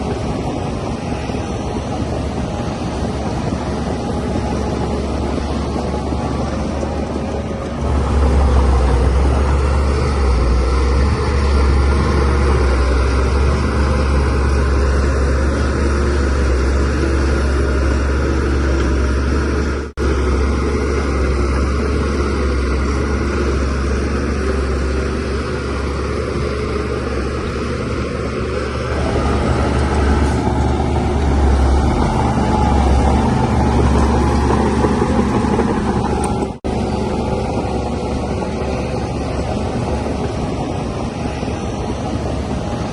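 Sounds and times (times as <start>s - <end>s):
bulldozer diesel engine rumbling: 0.0s - 42.9s.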